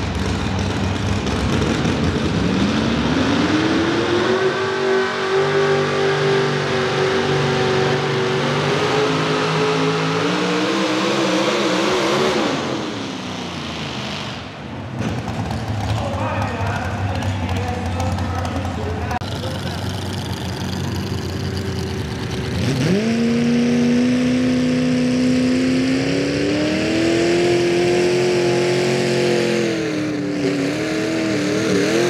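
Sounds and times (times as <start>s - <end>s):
pickup engine under full load: 0.0s - 32.0s.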